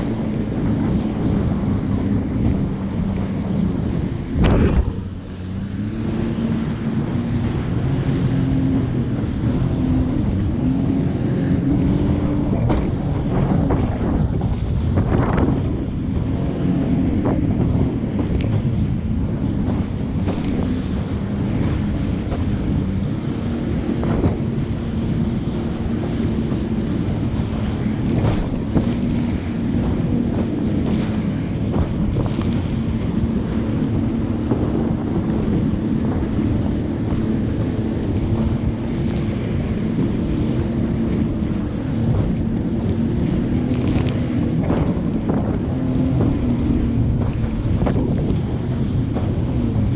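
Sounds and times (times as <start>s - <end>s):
jet ski engine: 0.0s - 49.9s
water splashing: 0.0s - 49.9s
wind buffeting microphone: 0.0s - 49.9s.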